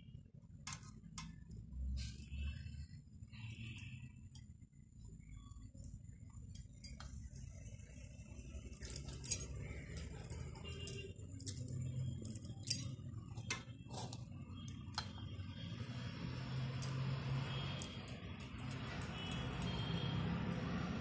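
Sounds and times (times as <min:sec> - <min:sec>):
low steady hum: 0:00.0 - 0:20.1.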